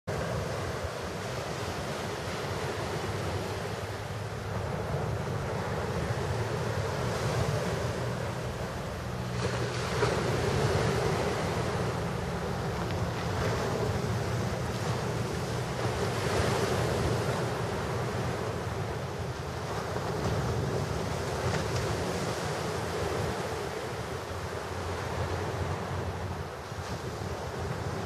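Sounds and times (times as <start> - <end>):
wind buffeting microphone: 0.1 - 28.0
waves lapping against rocks: 0.2 - 28.0.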